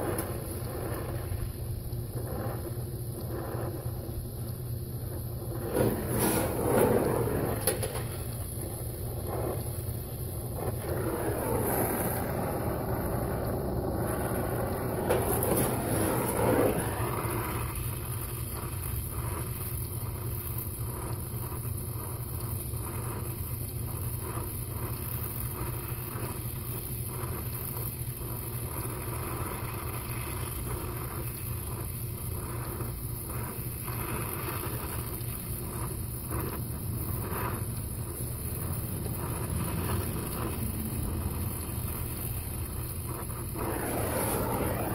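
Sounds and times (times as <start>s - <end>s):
torch flame hissing: 0.0s - 44.9s.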